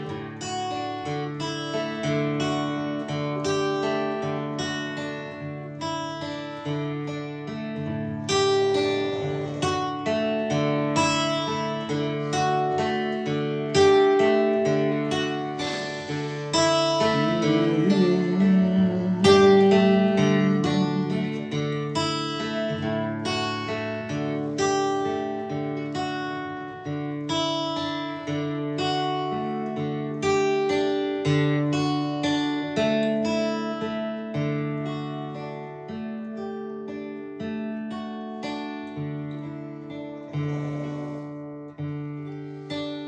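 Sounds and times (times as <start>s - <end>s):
guitar strummed and picked: 0.0s - 43.0s.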